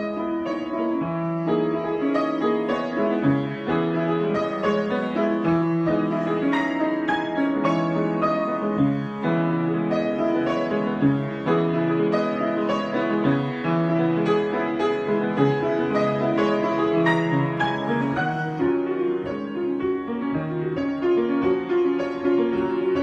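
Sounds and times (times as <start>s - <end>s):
solo piano: 0.0s - 23.0s.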